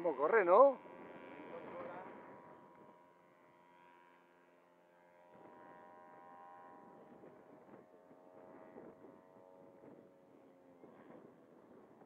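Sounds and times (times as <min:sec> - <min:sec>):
distant model plane motor buzzing: 0:00.0 - 0:12.0.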